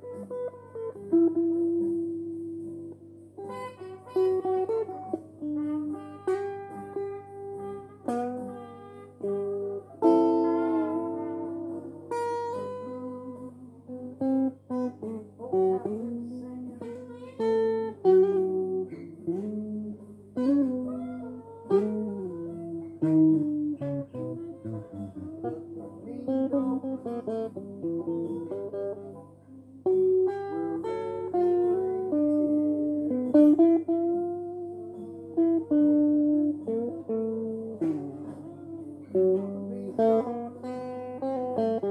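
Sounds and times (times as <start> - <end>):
electric guitar lead lines: 0.0 - 41.9.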